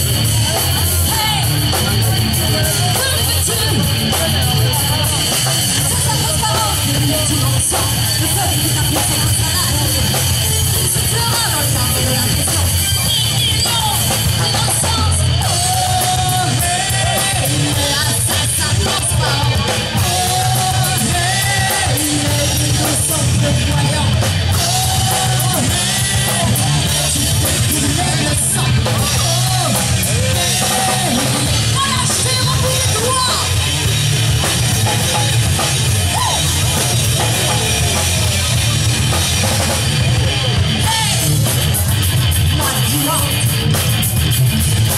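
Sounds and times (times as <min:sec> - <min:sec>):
person singing: 0:00.0 - 0:33.8, 0:39.6 - 0:43.9
drum kit: 0:00.0 - 0:44.9
electric guitars: 0:00.0 - 0:44.9.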